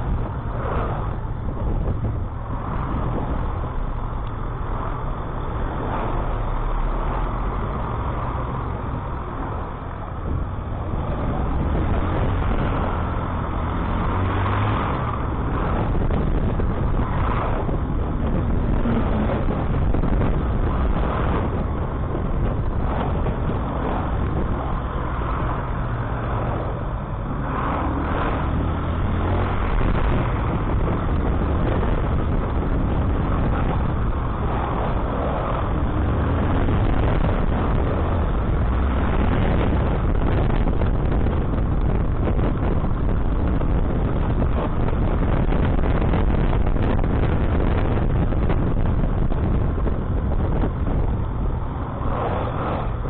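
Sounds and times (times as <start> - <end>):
lorries passing: 0.0 - 53.0.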